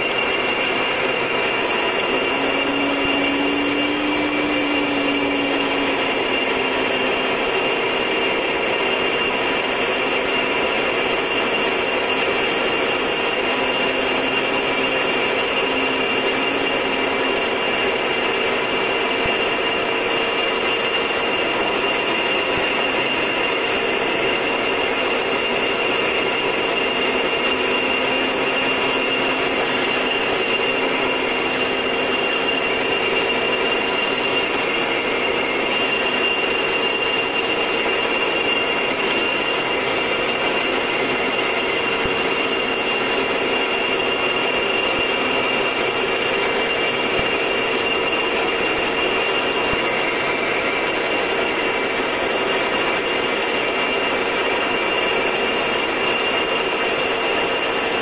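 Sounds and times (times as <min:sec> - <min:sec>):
turboprop engine running: 0:00.0 - 0:58.0.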